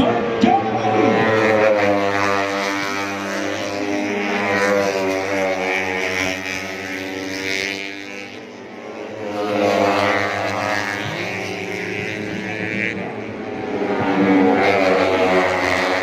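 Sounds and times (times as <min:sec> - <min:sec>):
racing motorcycles at high revs: 0:00.0 - 0:16.0.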